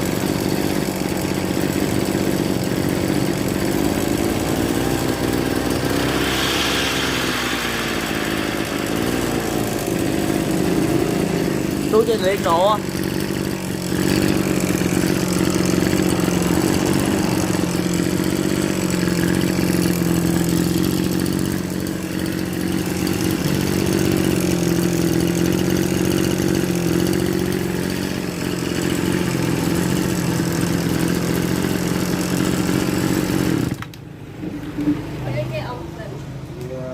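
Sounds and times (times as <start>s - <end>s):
small motorcycle engine idling: 0.0s - 36.9s.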